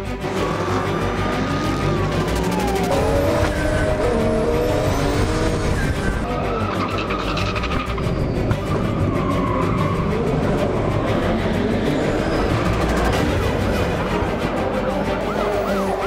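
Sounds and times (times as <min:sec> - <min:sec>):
background music: 0:00.0 - 0:16.0
car engine revving: 0:00.0 - 0:16.0
tires squealing: 0:00.1 - 0:16.0.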